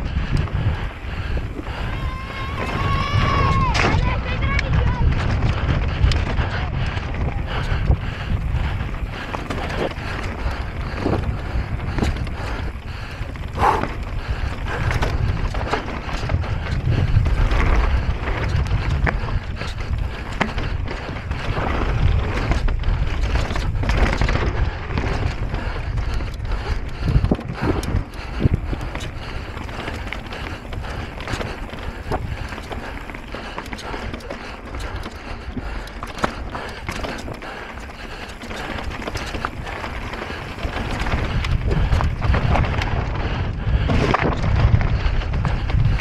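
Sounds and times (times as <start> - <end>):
bike rattling clicks and knocks: 0.0 - 46.0
wind buffeting microphone: 0.0 - 46.0.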